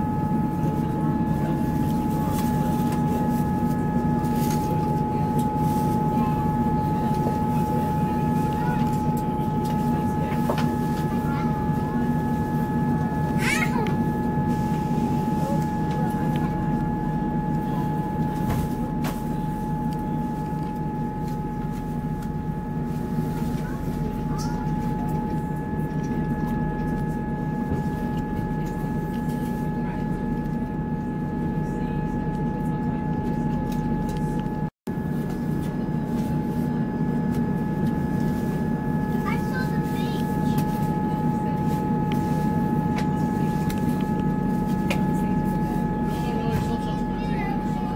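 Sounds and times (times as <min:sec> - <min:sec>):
train rumble: 0:00.0 - 0:47.9
train whine: 0:00.0 - 0:47.9.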